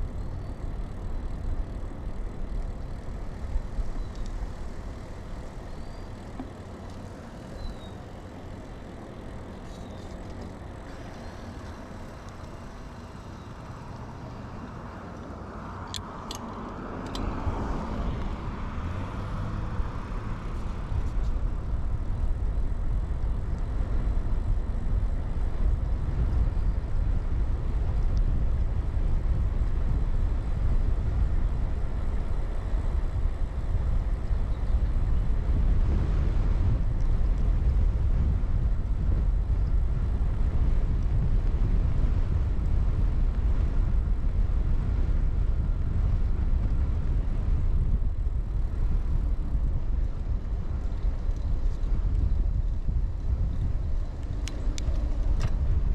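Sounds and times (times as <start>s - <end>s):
bicycle tyre noise: 0.0s - 55.9s
wind rumble on camera: 0.0s - 55.9s.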